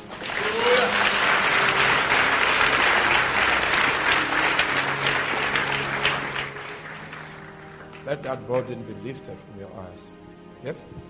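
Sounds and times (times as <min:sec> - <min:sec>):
congregation applauding: 0:00.0 - 0:09.0.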